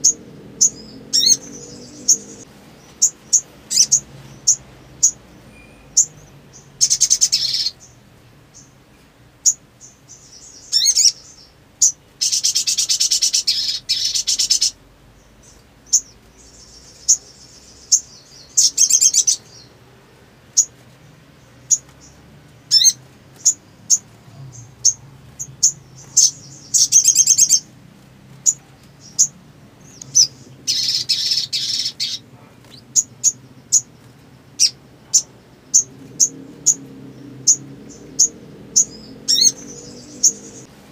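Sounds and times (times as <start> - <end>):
bird trilling: 0.0 - 8.0, 9.4 - 14.8, 15.4 - 19.7, 22.7 - 27.7, 28.4 - 33.9, 34.5 - 40.7
bird chirping: 0.0 - 40.7.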